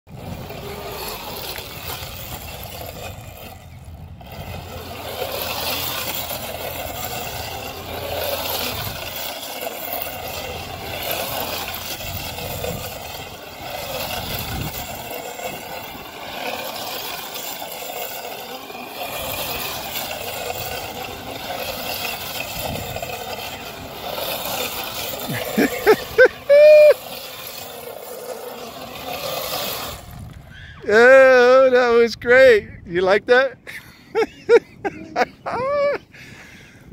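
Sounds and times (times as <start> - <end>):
tyres scrabbling on loose dirt: 0.1 - 31.3
electric motor whining: 0.1 - 31.8.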